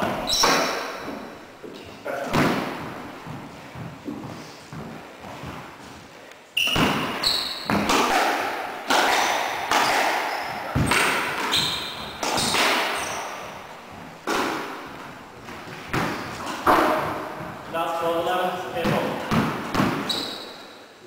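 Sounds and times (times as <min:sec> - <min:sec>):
squash ball hits echoing: 0:00.0 - 0:01.4, 0:02.1 - 0:05.6, 0:06.6 - 0:17.8, 0:18.7 - 0:20.7
shoes squeaking on wooden floor: 0:00.0 - 0:17.8, 0:18.7 - 0:20.7.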